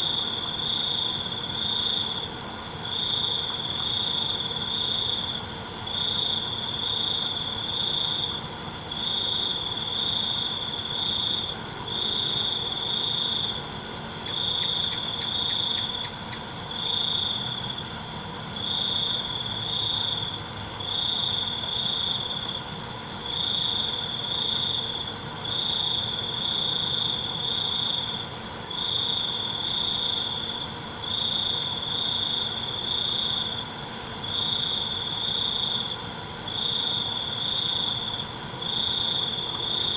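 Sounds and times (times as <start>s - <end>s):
crickets chirping: 0.0s - 39.9s
pulsing insect call: 0.0s - 39.9s.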